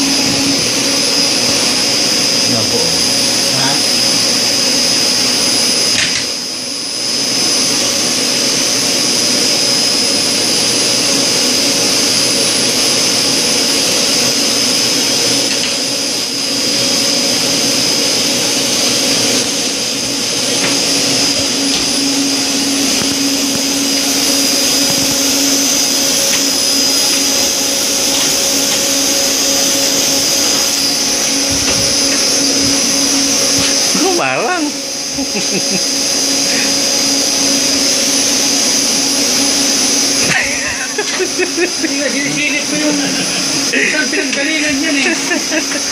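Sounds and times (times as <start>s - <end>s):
machinery drone with whine: 0.0s - 45.9s.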